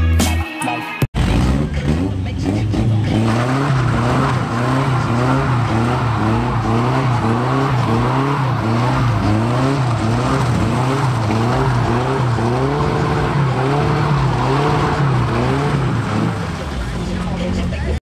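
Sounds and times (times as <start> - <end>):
car engine revving: 1.2 - 18.0.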